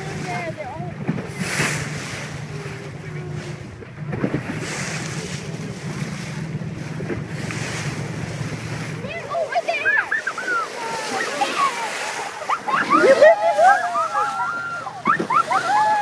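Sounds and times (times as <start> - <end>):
boat engine hum: 0.0 - 16.0
rushing water: 0.0 - 16.0.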